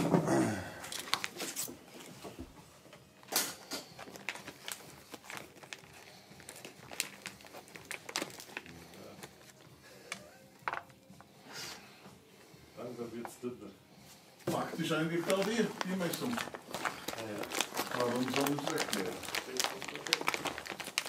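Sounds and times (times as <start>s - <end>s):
clicks taps and crinkling rustles: 0.9s - 11.3s, 14.4s - 21.0s.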